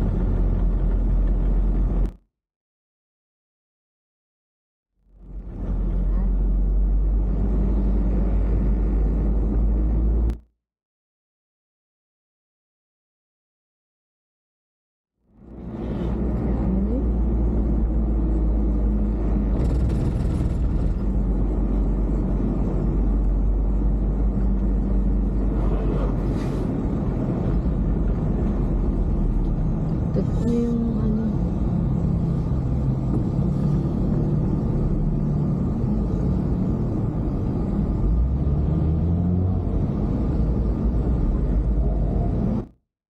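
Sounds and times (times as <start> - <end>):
car engine and tyres rumbling: 0.0 - 2.2, 5.0 - 10.4, 15.2 - 42.8
passing traffic noises: 0.0 - 2.2, 5.0 - 10.4, 15.2 - 42.8.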